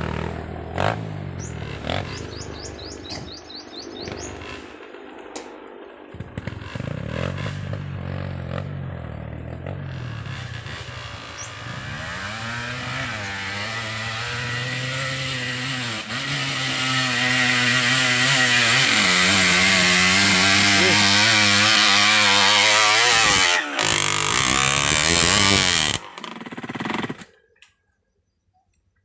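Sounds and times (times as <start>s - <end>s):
dirt bike engine revving: 0.0s - 27.3s.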